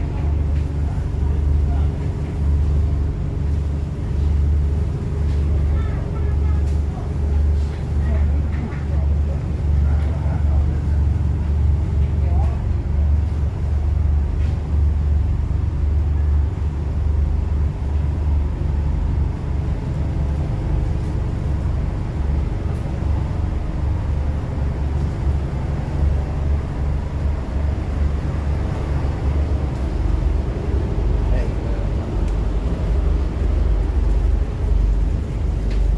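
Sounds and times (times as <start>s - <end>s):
vehicle engine rumble: 0.0s - 35.9s.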